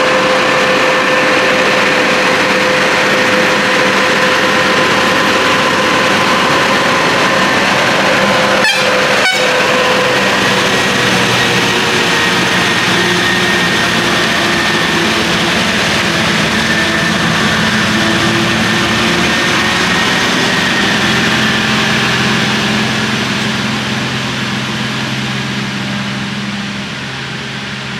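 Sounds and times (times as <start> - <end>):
diesel lorry engine drone: 0.0 - 27.9
high gear whine: 0.0 - 27.9.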